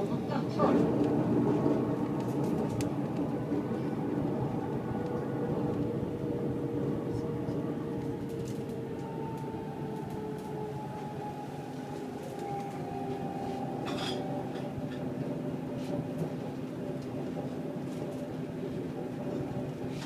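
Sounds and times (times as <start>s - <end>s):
train clicks and rattles: 0.0s - 20.0s
train rumble: 0.0s - 20.0s.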